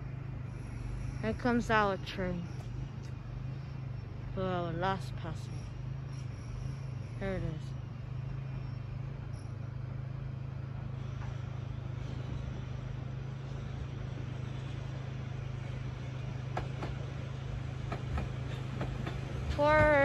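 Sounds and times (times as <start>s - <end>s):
train hum and rumble: 0.0s - 20.0s
train wheels squealing on rails: 0.0s - 20.0s.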